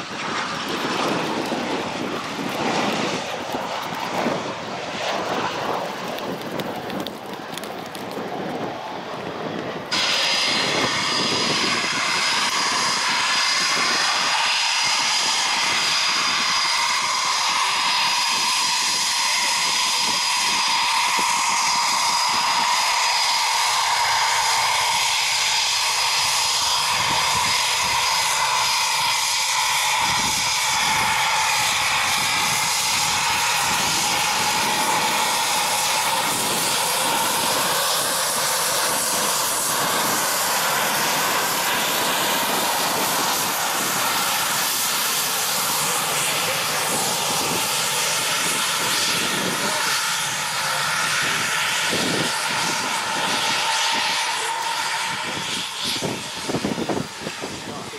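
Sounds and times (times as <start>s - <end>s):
aircraft engines running: 0.0s - 57.9s
high steady whine: 0.0s - 57.9s.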